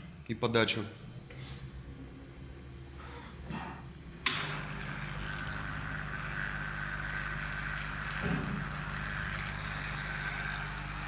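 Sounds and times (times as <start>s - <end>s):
machine hum and whine: 0.0s - 11.0s.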